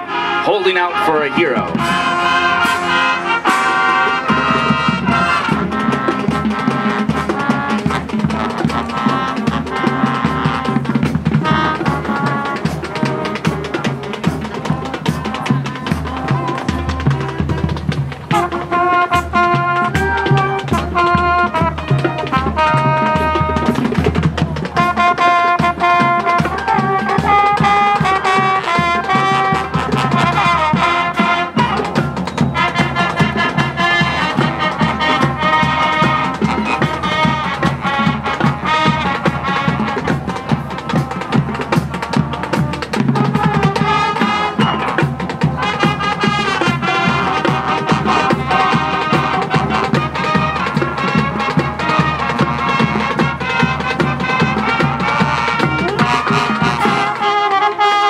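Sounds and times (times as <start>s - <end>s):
steady drum beat: 0.0s - 57.7s
brass playing chords and melody: 0.0s - 58.0s.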